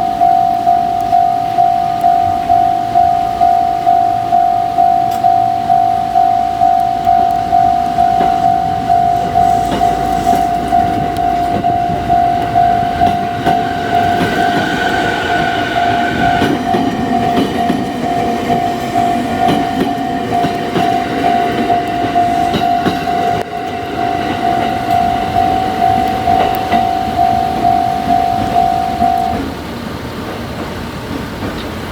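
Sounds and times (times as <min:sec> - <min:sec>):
level-crossing warning alarm: 0:00.0 - 0:29.6
train passing: 0:00.0 - 0:31.9.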